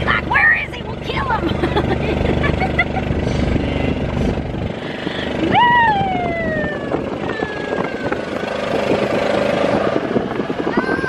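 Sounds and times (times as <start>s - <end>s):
golf cart rumble: 0.0s - 11.0s.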